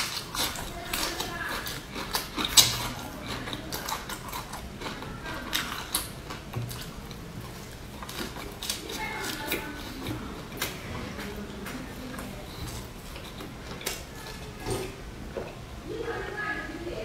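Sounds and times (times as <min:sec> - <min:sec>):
biting into lettuce: 0:00.0 - 0:15.0
crisp chewing crunches: 0:00.0 - 0:15.0.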